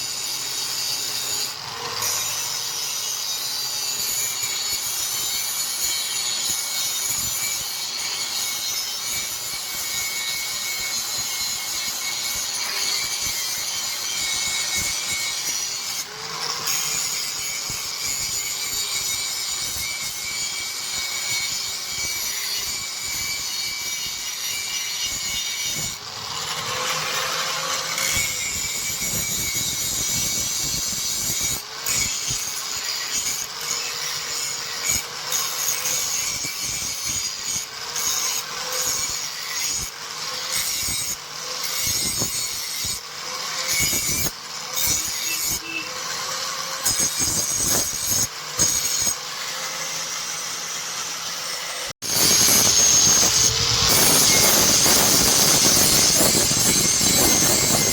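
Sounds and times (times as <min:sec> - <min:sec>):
steel rasping under abrasion: 0:00.0 - 0:57.9.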